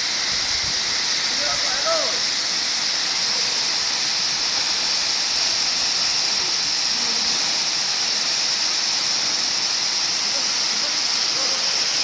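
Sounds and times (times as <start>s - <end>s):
waterfall crashing: 0.0s - 12.0s.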